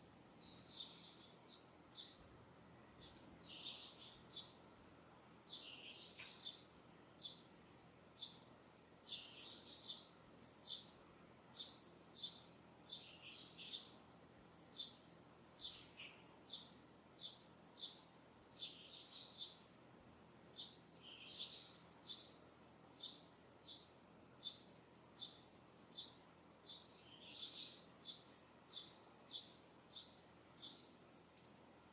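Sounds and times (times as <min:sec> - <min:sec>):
faint steady hiss: 0:00.0 - 0:31.9
small birds singing: 0:00.2 - 0:31.9.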